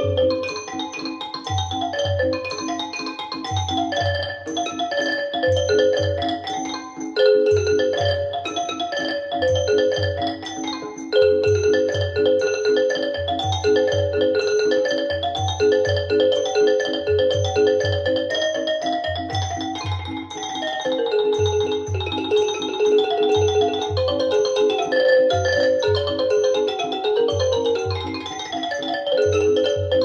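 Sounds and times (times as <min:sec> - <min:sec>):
rippling instrumental music: 0:00.0 - 0:30.0.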